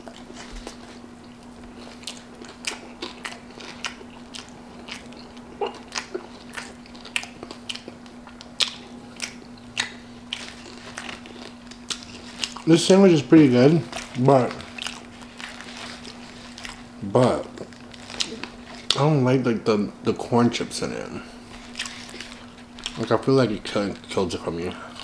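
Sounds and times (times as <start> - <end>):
person chewing crunchy food: 0.0 - 19.0, 21.1 - 25.0.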